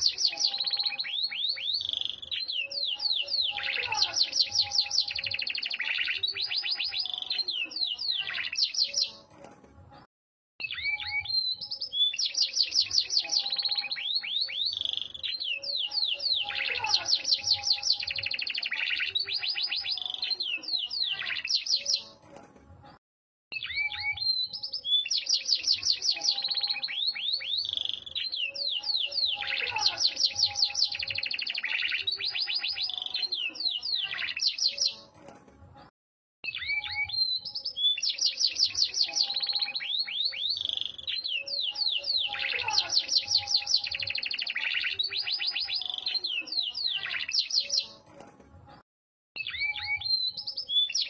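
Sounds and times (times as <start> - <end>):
canary singing high trills: 0.0 - 9.2, 10.6 - 22.2, 23.5 - 35.1, 36.4 - 48.0, 49.4 - 51.0.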